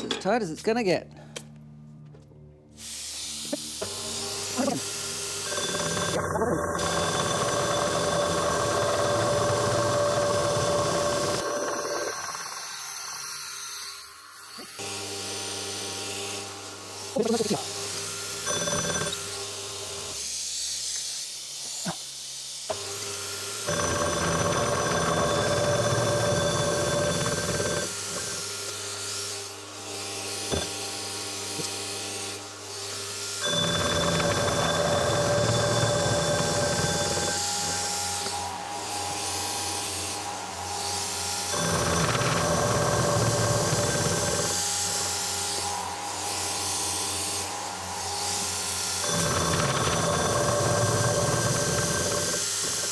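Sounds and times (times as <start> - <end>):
milling machine motor hum and whine: 3.4 - 20.8, 22.7 - 52.9.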